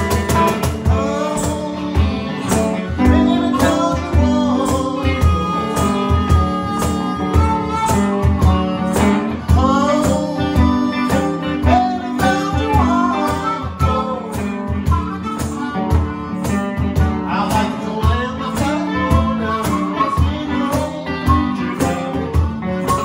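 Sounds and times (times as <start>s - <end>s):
cajon beat: 0.0s - 23.0s
electric guitar: 0.0s - 23.0s
harmonica playing: 0.0s - 23.0s
man singing: 0.0s - 23.0s.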